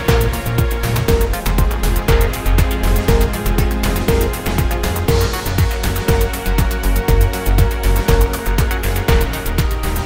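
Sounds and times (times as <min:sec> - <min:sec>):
bass beats: 0:00.0 - 0:10.0
electronic music with steady beat: 0:00.0 - 0:10.0.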